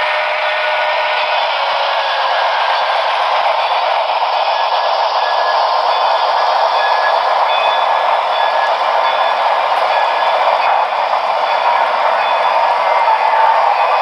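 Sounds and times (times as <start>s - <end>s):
model train running: 0.0s - 14.0s.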